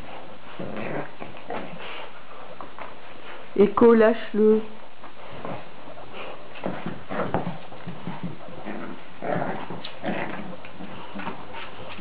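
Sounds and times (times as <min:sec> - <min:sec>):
soft dog noises: 0:00.0 - 0:12.0.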